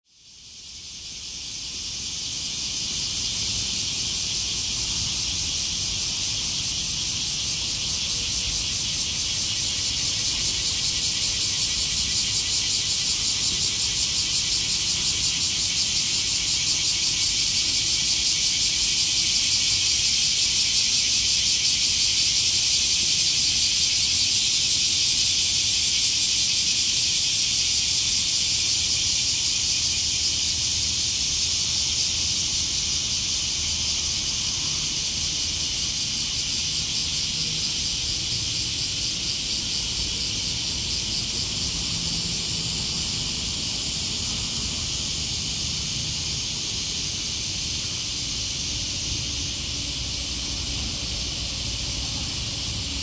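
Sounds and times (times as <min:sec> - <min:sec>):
cicadas buzzing: 0:00.1 - 0:53.0.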